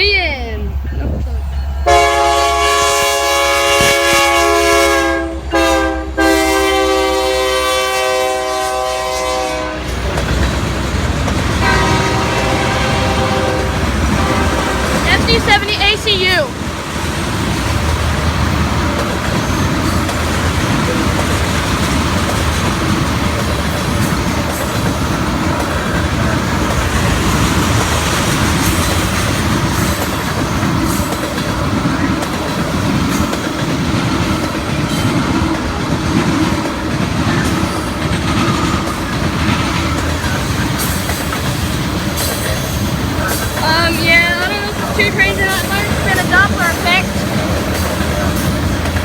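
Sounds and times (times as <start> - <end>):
freight train rumbling past: 0.0 - 49.0
wheels clacking over rail joints: 8.7 - 49.0.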